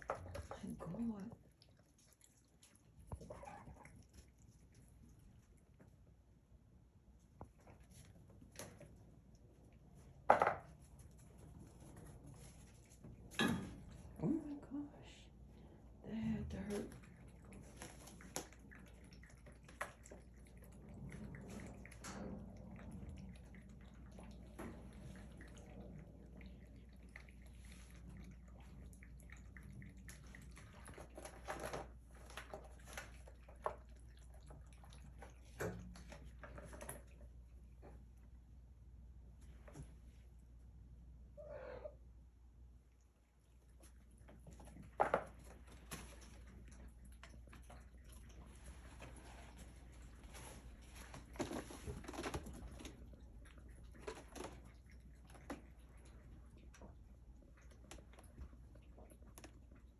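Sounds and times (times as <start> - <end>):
kittens scrambling and playing: 0.0 - 38.5, 43.1 - 59.9.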